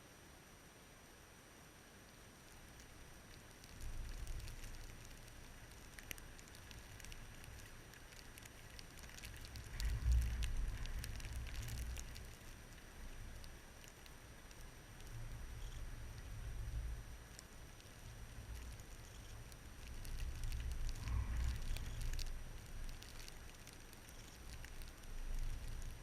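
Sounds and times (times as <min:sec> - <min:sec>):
light ticks and crackles: 0:00.5 - 0:26.0
blizzard wind gusting: 0:02.9 - 0:26.0.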